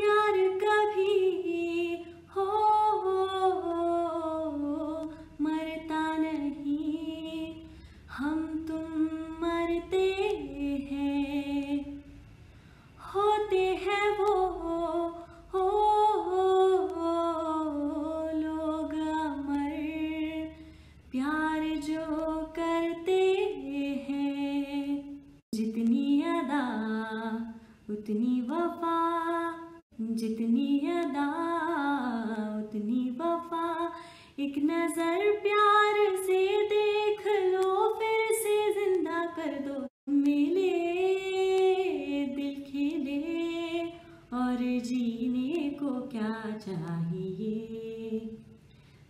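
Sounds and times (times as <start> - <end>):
woman singing a cappella: 0.0 - 12.2, 13.0 - 48.7.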